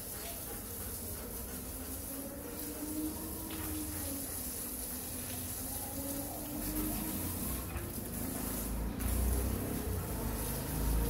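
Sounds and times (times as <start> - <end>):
garden hose spraying water: 0.0 - 11.0.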